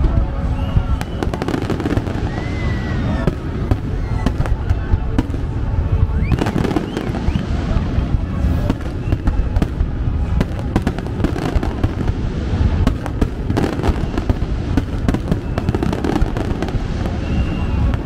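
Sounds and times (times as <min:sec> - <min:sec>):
fireworks bangs and crackles: 0:00.0 - 0:18.0
low rumble: 0:00.0 - 0:18.0.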